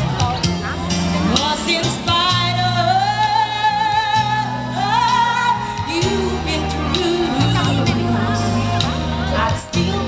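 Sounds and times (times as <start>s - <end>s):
amplified instrumental accompaniment: 0.0s - 10.0s
woman singing: 1.2s - 10.0s.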